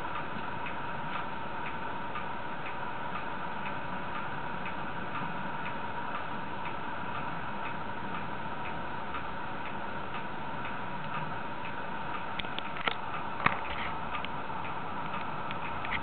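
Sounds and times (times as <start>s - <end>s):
background hiss and hum: 0.0s - 16.0s.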